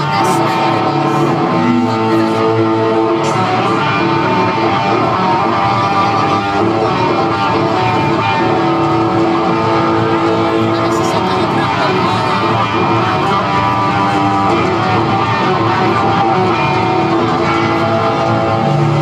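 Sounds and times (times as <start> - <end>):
guitar band music: 0.0 - 19.0.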